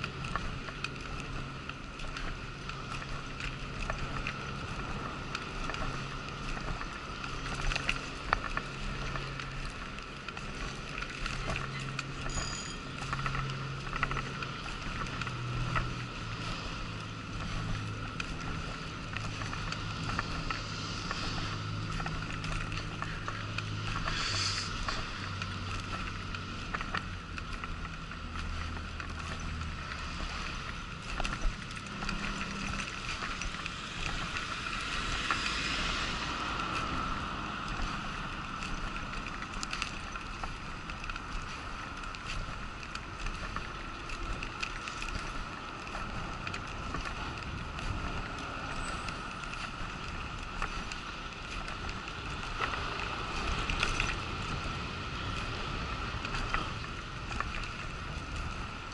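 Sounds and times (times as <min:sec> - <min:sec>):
faint rattles and ticks: 0:00.0 - 0:58.9
wheelchair rolling on pavement: 0:00.0 - 0:58.9.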